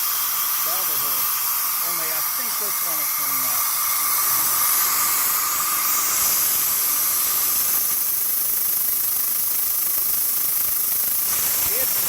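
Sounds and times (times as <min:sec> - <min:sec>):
faint spindle whine: 0:00.0 - 0:12.0
machine cutting hiss: 0:00.0 - 0:12.0.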